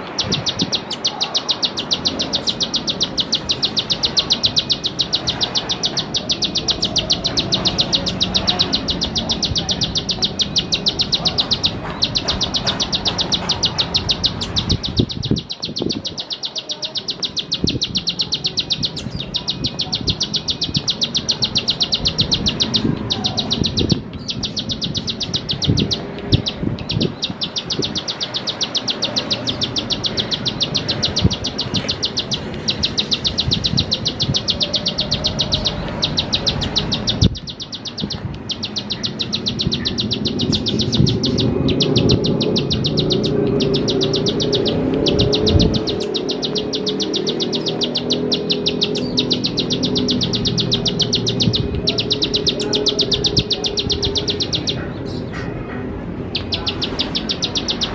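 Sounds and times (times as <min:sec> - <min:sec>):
bird singing sharp clicking notes: 0:00.0 - 0:57.9.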